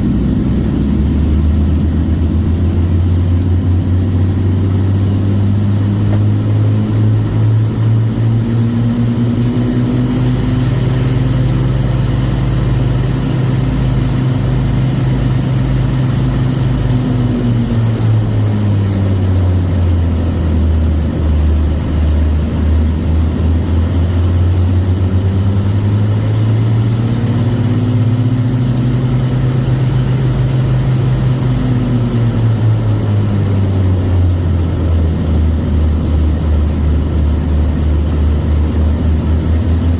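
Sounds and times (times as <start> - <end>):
piston aircraft engines running up: 0.0 - 39.9.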